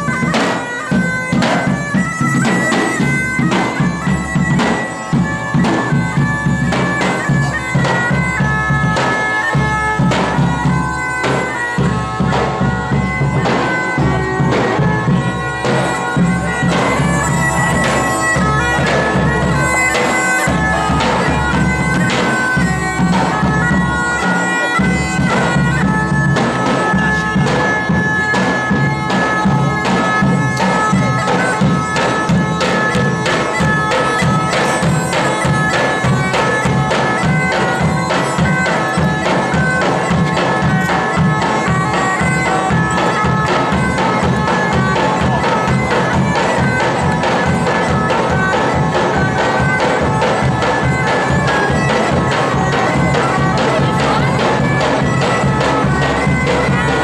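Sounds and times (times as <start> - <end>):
bagpipe music: 0.0 - 57.0
drum beat: 0.0 - 57.0.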